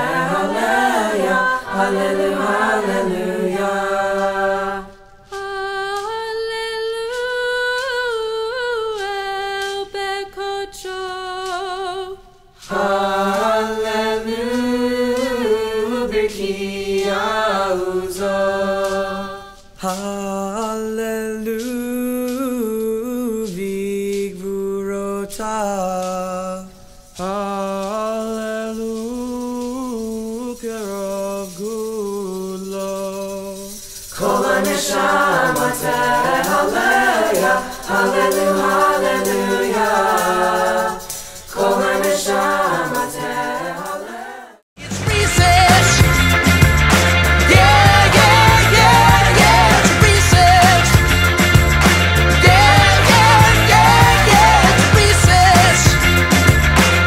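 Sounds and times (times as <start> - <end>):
unaccompanied singing: 0.0 - 56.8.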